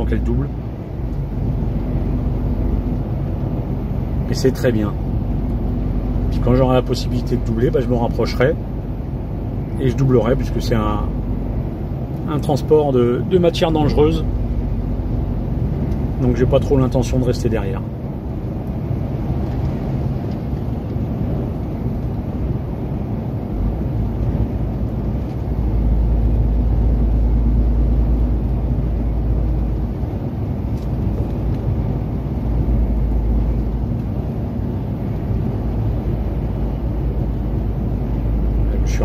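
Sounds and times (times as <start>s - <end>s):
lorry engine and tyre rumble: 0.0s - 39.0s.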